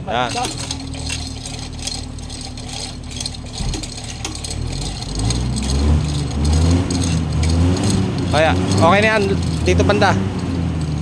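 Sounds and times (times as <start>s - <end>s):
light metallic clicks and rattles: 0.0s - 11.0s
vehicle engine running: 0.0s - 11.0s.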